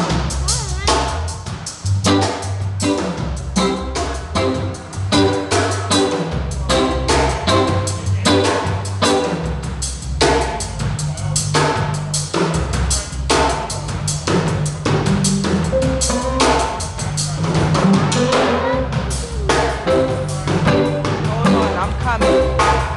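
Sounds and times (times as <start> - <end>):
bass line: 0.0 - 22.9
live band playing: 0.0 - 22.9.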